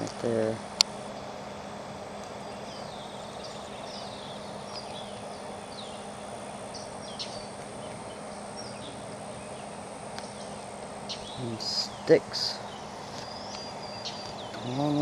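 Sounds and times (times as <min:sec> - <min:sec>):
steady background hiss: 0:00.0 - 0:15.0
birds chirping and calling: 0:02.0 - 0:15.0
bird trill: 0:02.3 - 0:15.0.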